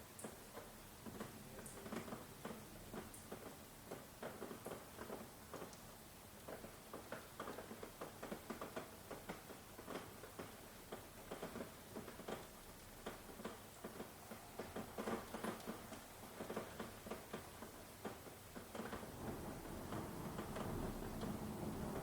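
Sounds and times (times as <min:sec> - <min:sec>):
rain hiss: 0:00.0 - 0:22.0
raindrops tapping: 0:00.2 - 0:22.0.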